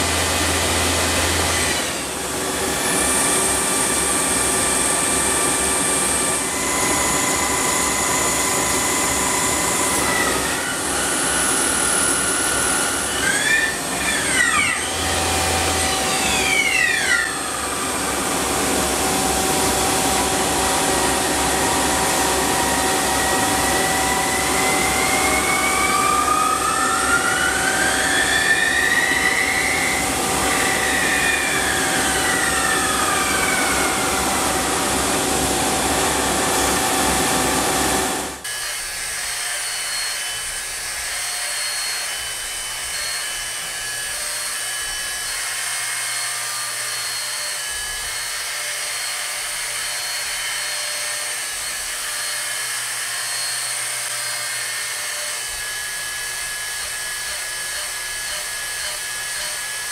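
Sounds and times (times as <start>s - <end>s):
lathe whine: 0.0s - 59.9s
milling machine cutting metal: 0.0s - 59.9s.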